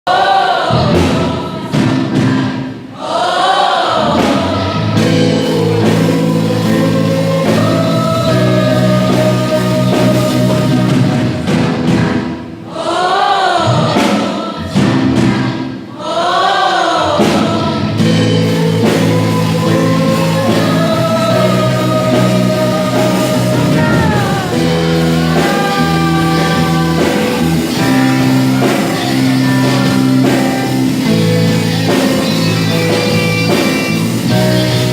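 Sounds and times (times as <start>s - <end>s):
choir-like voices singing: 0.0s - 34.9s.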